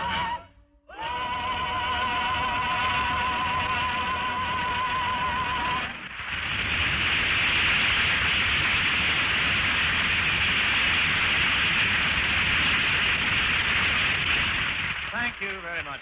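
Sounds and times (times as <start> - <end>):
audience applause: 1.0 - 16.0.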